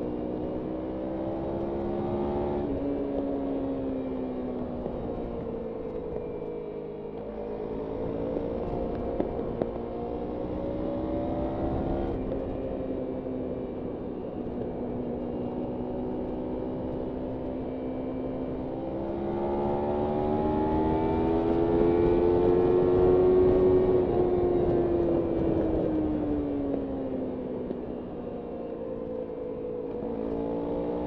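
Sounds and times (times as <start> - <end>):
motorcycle engine riding: 0.0 - 31.0.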